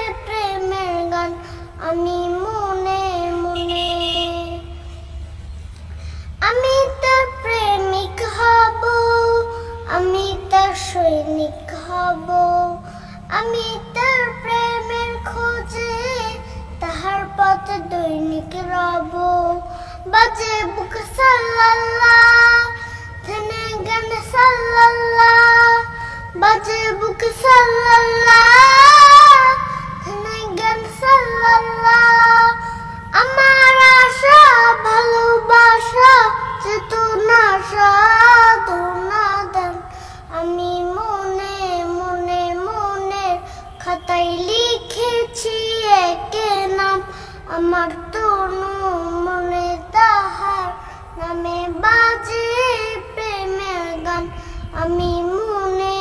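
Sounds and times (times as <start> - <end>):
boy singing devotional song: 0.0 - 56.0.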